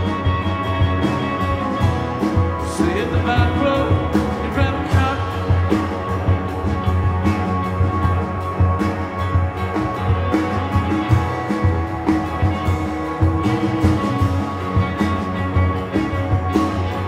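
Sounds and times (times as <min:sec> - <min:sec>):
double bass line: 0:00.0 - 0:17.0
electric guitar sustained notes: 0:00.0 - 0:17.0.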